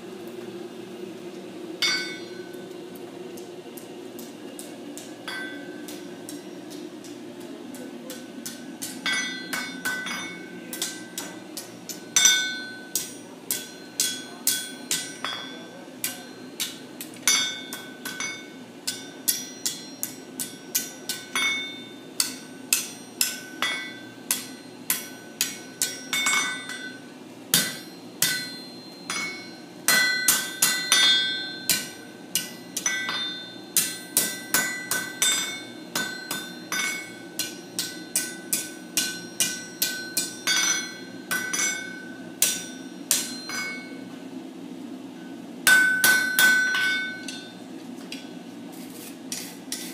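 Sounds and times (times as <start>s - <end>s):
low steady hum: 0.0s - 49.9s
hammer striking iron on anvil: 1.8s - 2.6s, 4.6s - 44.1s, 45.6s - 47.6s.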